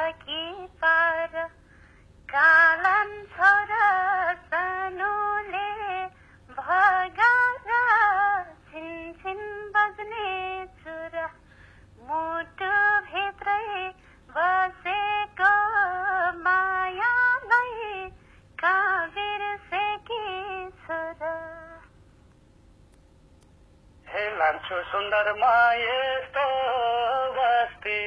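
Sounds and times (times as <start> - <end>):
woman singing unaccompanied: 0.0 - 1.6, 2.3 - 11.4, 12.0 - 21.9, 25.4 - 28.0.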